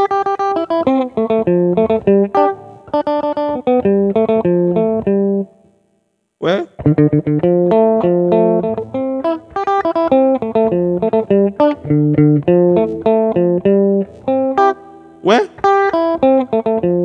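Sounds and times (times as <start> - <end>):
electric guitar picking rhythm: 0.0 - 5.6, 6.6 - 17.0.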